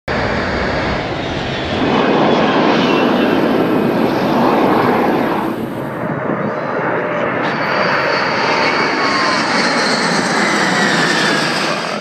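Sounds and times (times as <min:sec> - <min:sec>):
jet engines running loud: 0:00.1 - 0:12.0.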